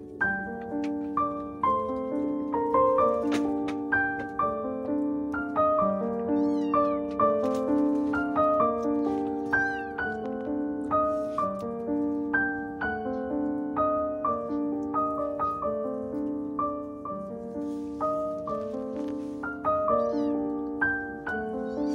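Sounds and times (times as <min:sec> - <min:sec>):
slow piano melody: 0:00.0 - 0:21.9.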